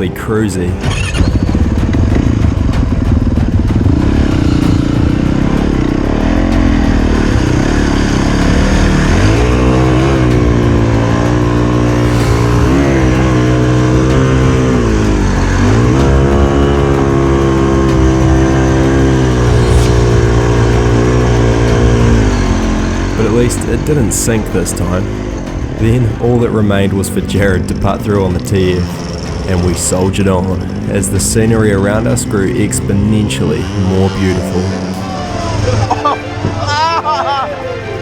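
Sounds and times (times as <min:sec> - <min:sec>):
dirt bike engine revving: 0:00.0 - 0:36.6.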